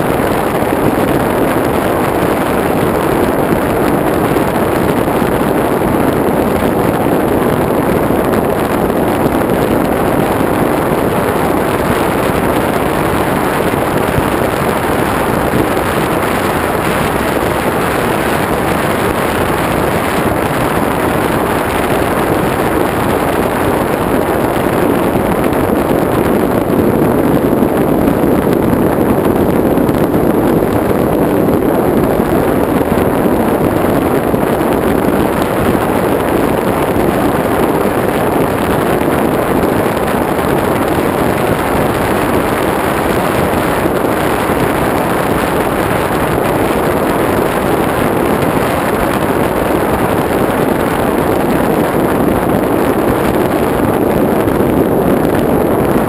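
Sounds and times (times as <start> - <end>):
propeller motor noise in flight: 0.0 - 56.0
wind buffeting microphone: 0.0 - 56.0.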